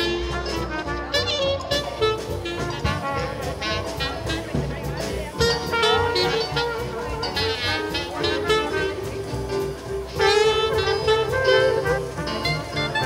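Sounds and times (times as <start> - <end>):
double bass: 0.0 - 13.0
saxophone: 0.0 - 13.0
trumpet: 0.0 - 13.0.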